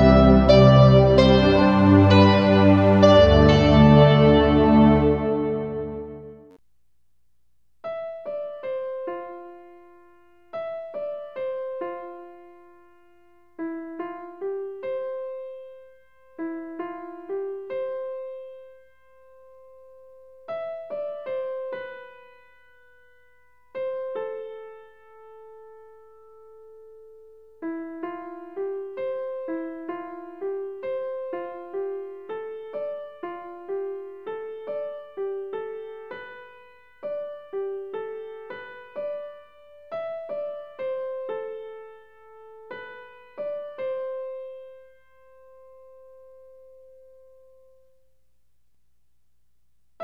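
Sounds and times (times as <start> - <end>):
slow piano melody: 0.0 - 6.6, 7.9 - 48.0.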